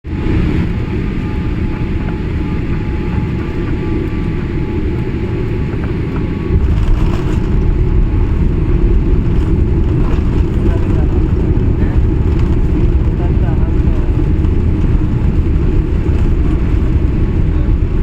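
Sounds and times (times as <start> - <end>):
airliner cabin engine rumble: 0.1 - 18.0.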